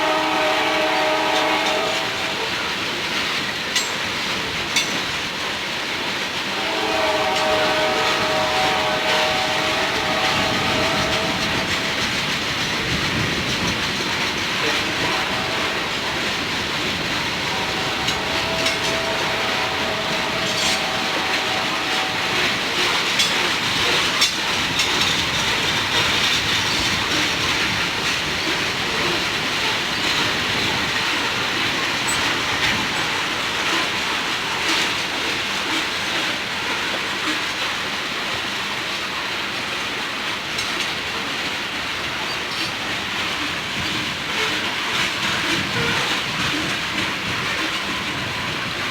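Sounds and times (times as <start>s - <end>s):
freight train rumbling past: 0.0s - 48.9s
wheels clicking over rail joints: 0.9s - 48.9s.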